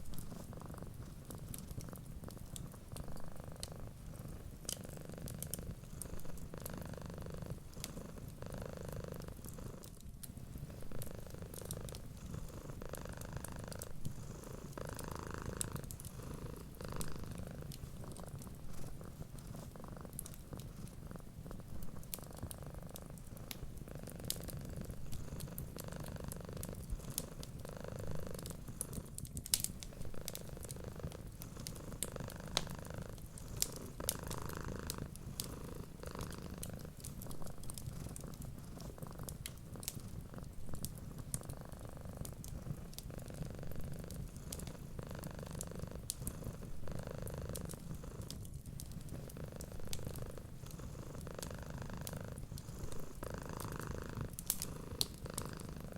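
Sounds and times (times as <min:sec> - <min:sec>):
cat purring: 0:00.0 - 0:55.9
fire crackling and popping: 0:00.0 - 0:55.9.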